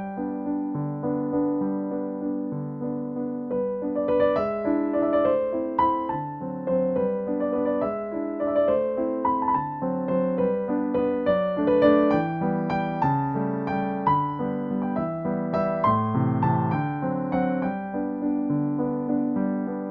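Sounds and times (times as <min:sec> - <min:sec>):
gentle piano music: 0:00.0 - 0:19.9.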